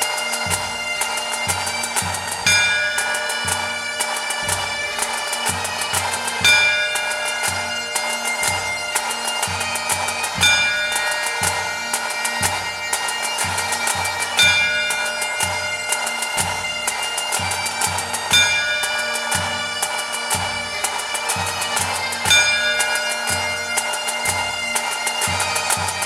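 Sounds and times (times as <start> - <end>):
bagpipes playing melody: 0.0 - 26.0
snare drums: 0.0 - 26.0.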